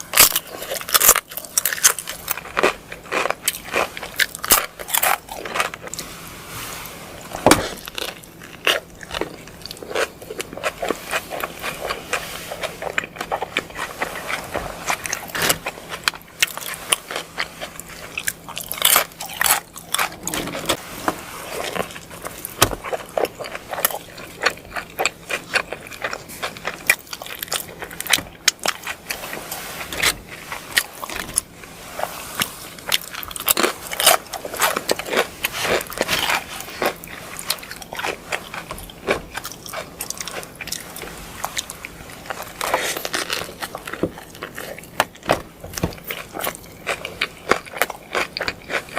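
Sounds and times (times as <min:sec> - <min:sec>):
person biting and chewing: 0:00.0 - 0:06.1, 0:06.9 - 0:20.8, 0:21.4 - 0:48.9.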